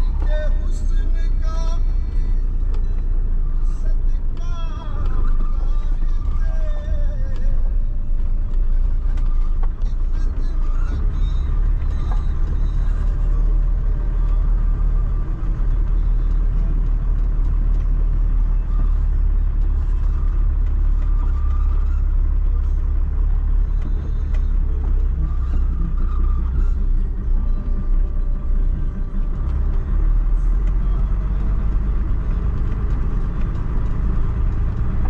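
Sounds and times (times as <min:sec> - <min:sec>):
truck driving on dirt road: 0:00.0 - 0:35.0.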